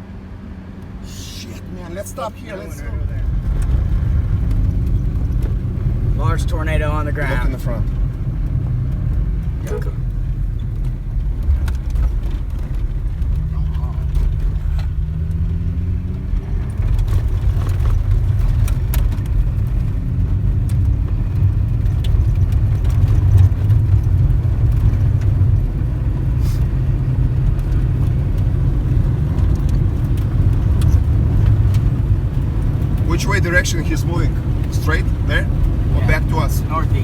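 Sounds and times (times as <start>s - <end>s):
car engine accelerating: 0.0s - 37.0s
road rumble inside car: 0.0s - 37.0s.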